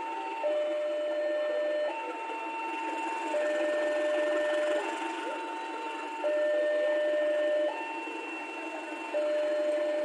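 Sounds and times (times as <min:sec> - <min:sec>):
two-tone crossing alarm: 0:00.0 - 0:10.0.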